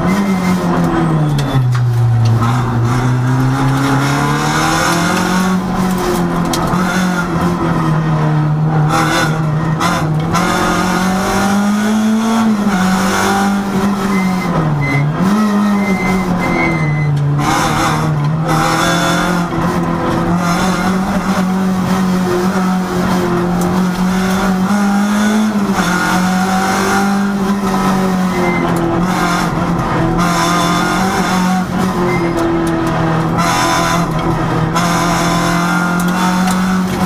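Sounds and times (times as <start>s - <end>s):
rally car engine revving: 0.0s - 37.0s
road and tyre noise: 0.0s - 37.0s.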